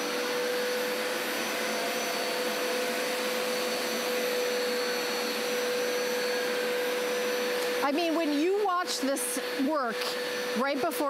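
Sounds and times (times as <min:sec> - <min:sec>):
carpet cleaner running: 0:00.0 - 0:11.0.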